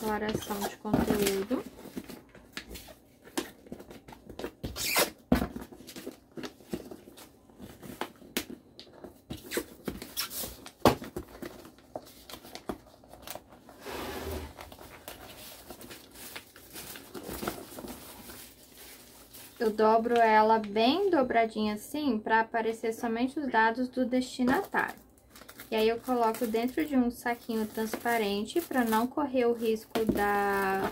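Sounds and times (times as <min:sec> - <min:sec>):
paper rustling and crinkling: 0:00.0 - 0:13.8, 0:14.5 - 0:20.4, 0:24.5 - 0:30.9.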